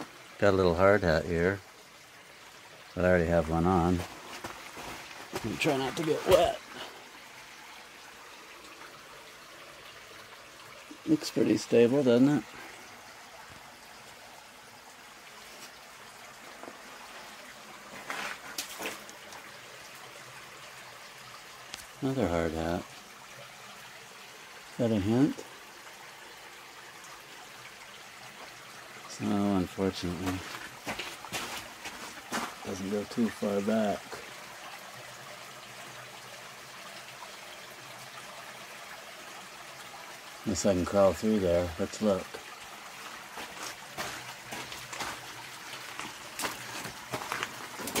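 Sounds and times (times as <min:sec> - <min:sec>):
faint water trickle: 0:00.0 - 0:48.0.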